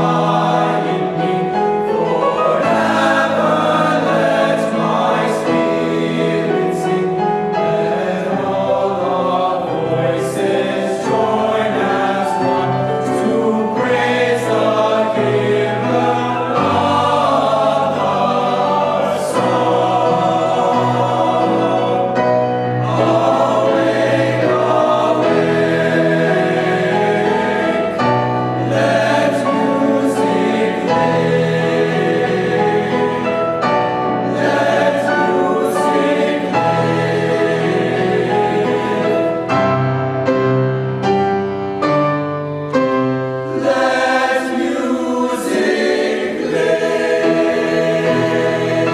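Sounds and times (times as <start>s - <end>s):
choir singing in parts: 0.0s - 39.9s, 43.1s - 48.9s.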